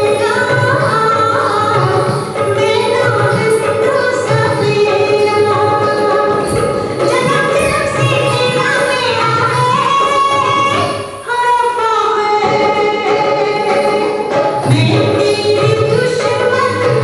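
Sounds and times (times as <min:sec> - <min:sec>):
instrumental accompaniment: 0:00.0 - 0:17.0
woman singing: 0:00.0 - 0:17.0.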